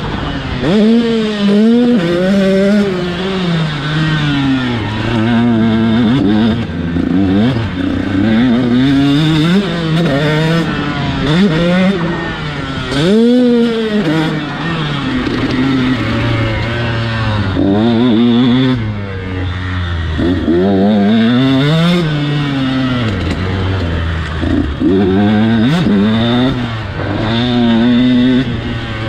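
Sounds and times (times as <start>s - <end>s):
motocross engine revving: 0.0s - 29.0s.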